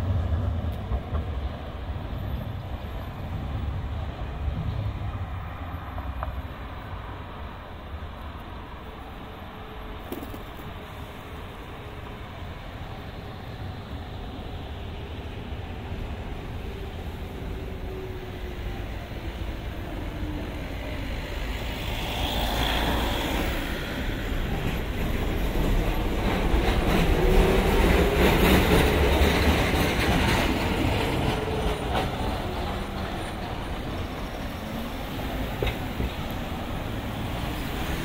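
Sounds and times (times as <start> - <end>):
city traffic: 0.0 - 38.0
tram passing with wheels clattering: 0.0 - 38.0.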